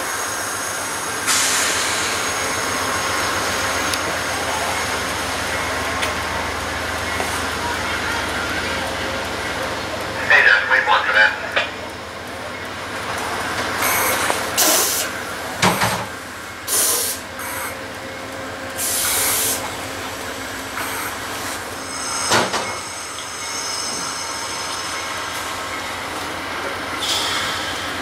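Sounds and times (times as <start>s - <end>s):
train wheels on rail: 0.0s - 28.0s.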